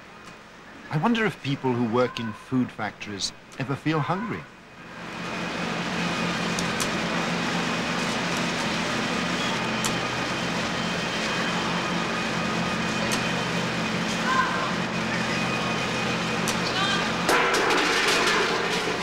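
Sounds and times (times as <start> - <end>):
bakery machinery humming: 0.0 - 19.0.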